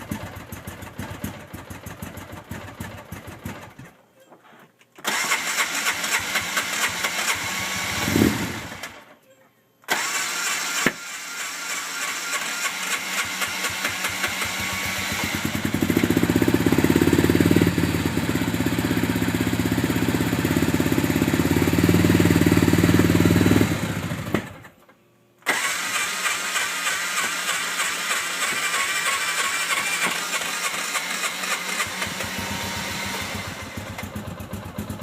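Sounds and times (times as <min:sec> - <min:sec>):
engine turning over and running: 0:05.0 - 0:09.0, 0:09.9 - 0:24.7, 0:25.5 - 0:35.0.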